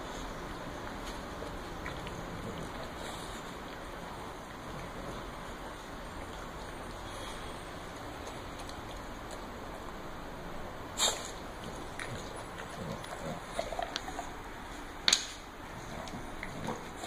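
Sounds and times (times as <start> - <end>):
dog snuffling and sniffing: 0.0 - 10.0, 11.0 - 17.0.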